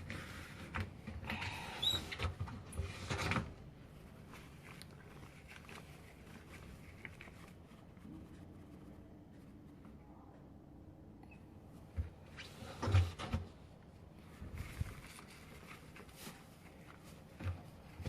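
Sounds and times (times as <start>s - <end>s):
rustling and clicking handling: 0.0s - 10.7s, 11.6s - 18.0s.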